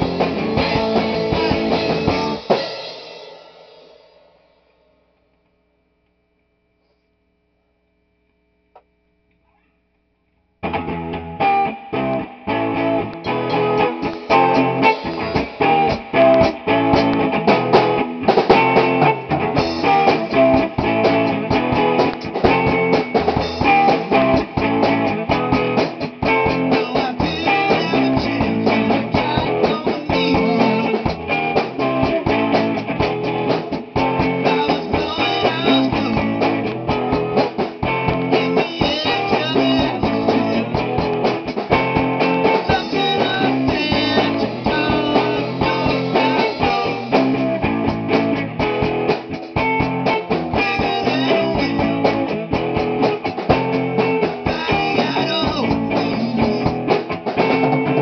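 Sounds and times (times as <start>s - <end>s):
electric guitar: 0.0s - 4.8s, 10.6s - 58.0s
drum kit: 0.0s - 5.0s, 10.6s - 58.0s.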